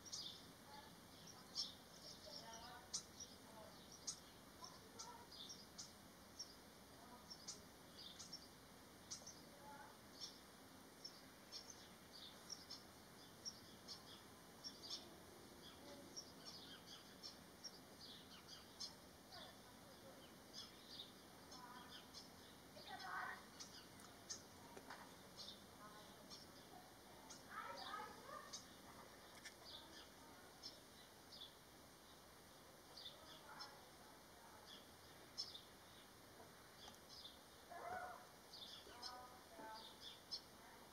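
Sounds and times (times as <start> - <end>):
faint bird chirps: 0.0 - 40.9.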